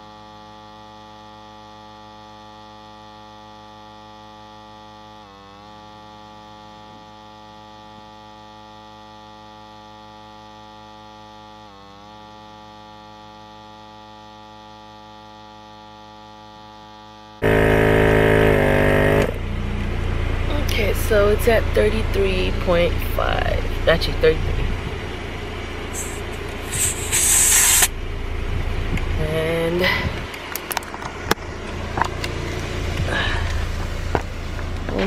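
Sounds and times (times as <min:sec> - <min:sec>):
air compressor motor hum: 0:00.0 - 0:35.0.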